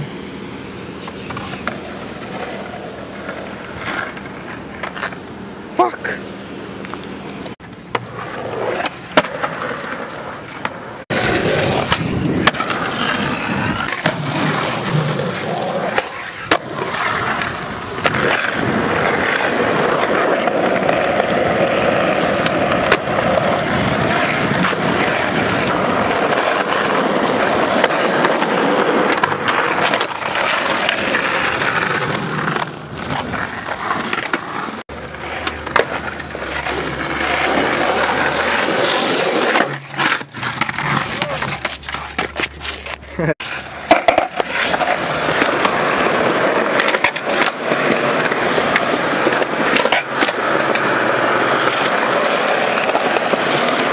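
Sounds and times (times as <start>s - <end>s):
skateboard wheels rolling on concrete: 0.0s - 53.9s
skateboard clacking: 0.8s - 6.2s, 6.8s - 53.9s.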